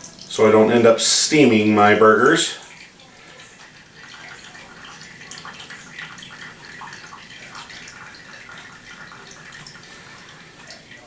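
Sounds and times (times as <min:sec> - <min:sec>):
grease trickling and splashing: 0:00.0 - 0:11.0.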